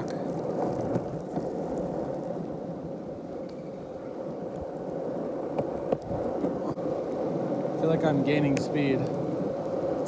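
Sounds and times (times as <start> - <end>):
longboard wheels rumbling on asphalt: 0.0 - 10.0.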